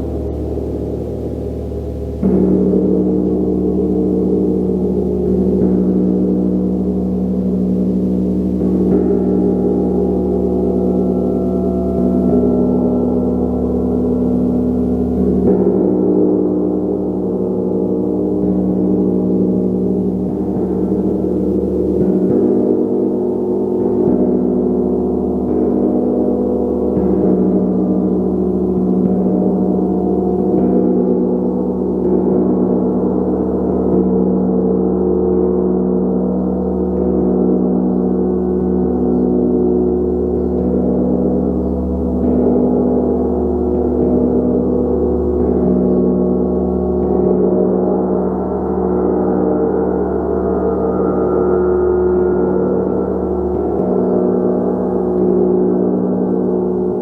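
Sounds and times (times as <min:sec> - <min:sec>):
gong ringing: 0:00.0 - 0:34.5, 0:40.2 - 0:57.0.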